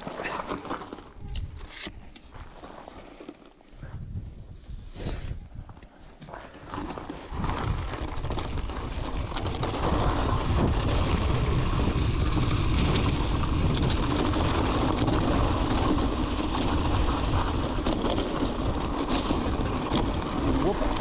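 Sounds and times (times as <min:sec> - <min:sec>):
bike rumble on rough trail: 0:00.0 - 0:21.0.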